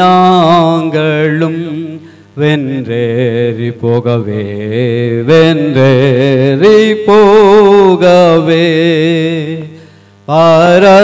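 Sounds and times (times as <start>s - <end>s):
man singing a hymn: 0.0s - 11.0s.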